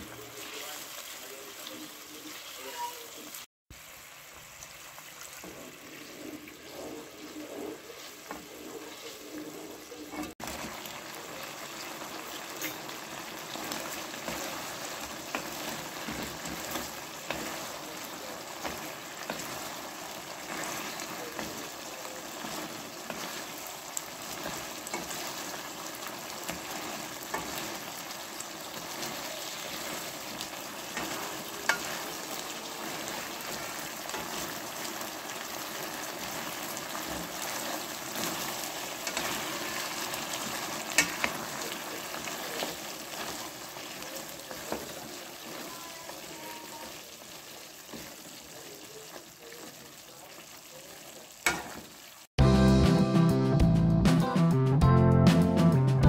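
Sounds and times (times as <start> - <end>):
sauce sizzling and bubbling: 0.0 - 52.4
wooden spatula stirring: 5.3 - 50.4.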